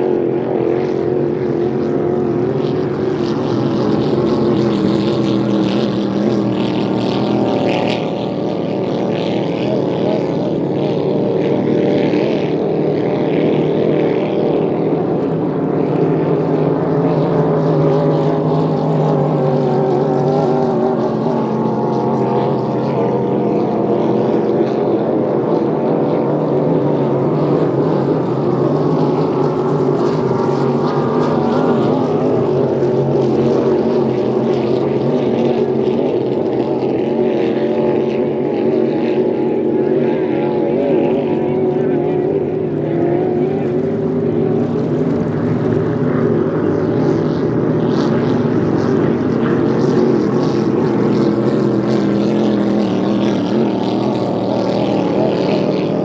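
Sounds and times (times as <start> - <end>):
racing boat engines roaring: 0.0 - 56.0.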